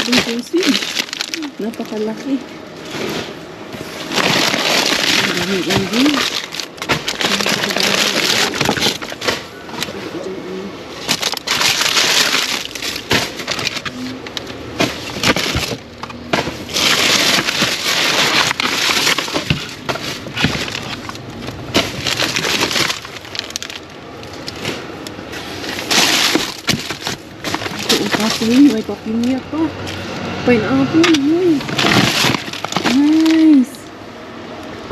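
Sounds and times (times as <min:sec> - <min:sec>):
plastic bags rustling and crinkling: 0:00.0 - 0:10.3, 0:10.9 - 0:30.2, 0:30.9 - 0:33.8.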